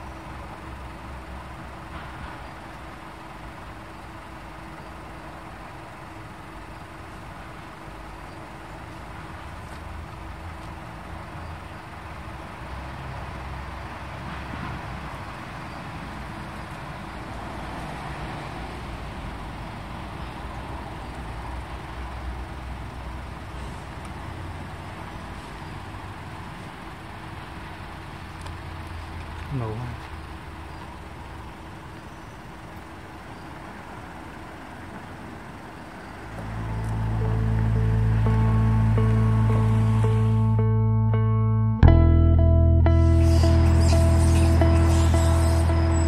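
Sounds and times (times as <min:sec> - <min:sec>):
faint constant hum: 0:00.0 - 0:41.4
road traffic rumble: 0:00.0 - 0:46.0.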